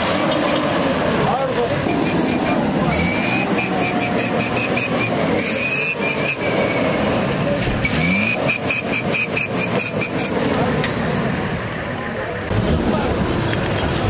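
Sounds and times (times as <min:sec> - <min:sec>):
vehicle engines rumbling: 0:00.0 - 0:14.0.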